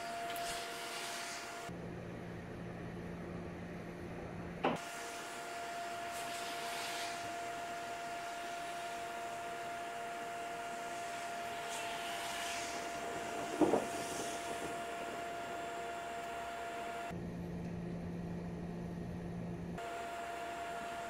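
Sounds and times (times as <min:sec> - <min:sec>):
mechanical hum and hiss: 0:00.0 - 0:21.0.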